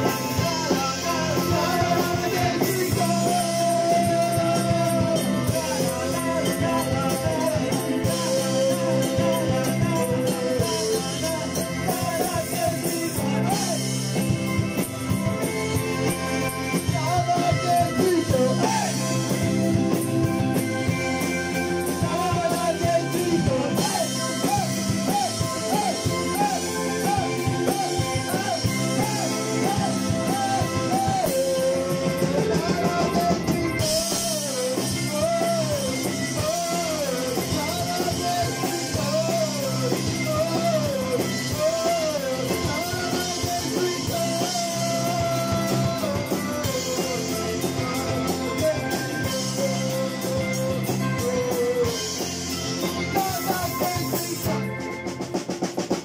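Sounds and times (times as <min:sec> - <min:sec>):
person singing: 0:00.0 - 0:55.3
drum kit: 0:00.0 - 0:56.0
electric bass: 0:00.0 - 0:56.0
electric guitar: 0:00.0 - 0:56.0.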